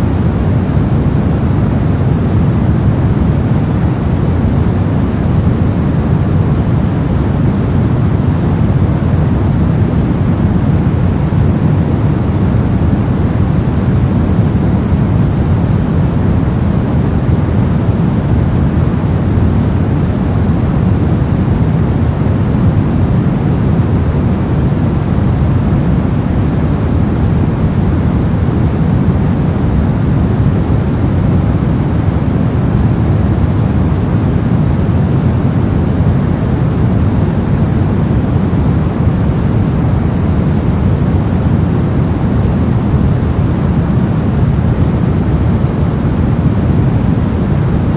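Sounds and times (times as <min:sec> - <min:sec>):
brown noise rumbling hiss: 0:00.0 - 0:47.9.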